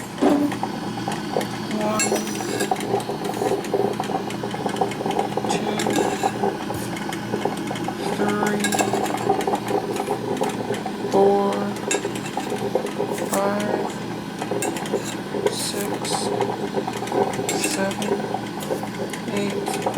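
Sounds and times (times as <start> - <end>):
coffee maker gurgling and sputtering: 0.0 - 19.9.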